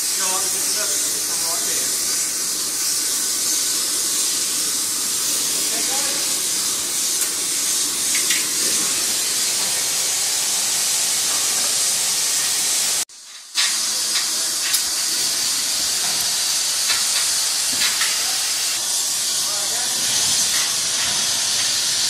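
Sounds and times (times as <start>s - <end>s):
loud steady hiss: 0.0s - 22.0s.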